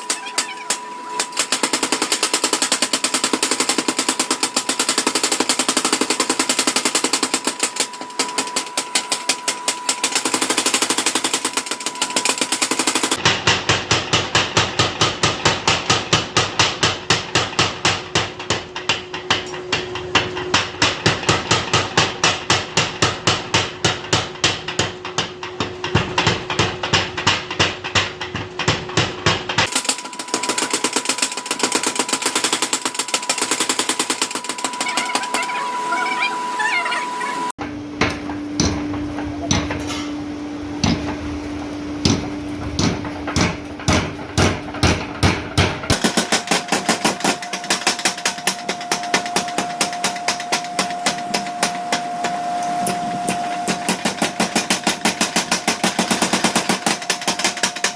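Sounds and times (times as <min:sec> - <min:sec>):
power hammer forging hot steel: 0:00.0 - 0:35.4, 0:37.6 - 0:57.9.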